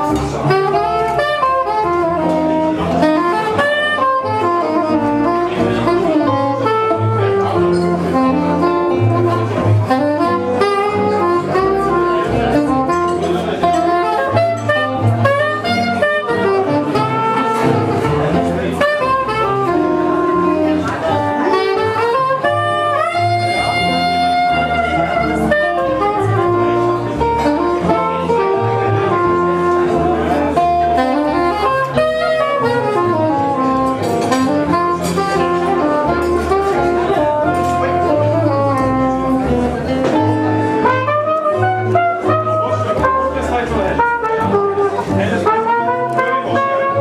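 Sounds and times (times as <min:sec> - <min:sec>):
brass horn lead: 0:00.0 - 0:47.0
double bass: 0:00.0 - 0:47.0
guitar: 0:00.0 - 0:47.0
soprano saxophone solo: 0:00.0 - 0:47.0.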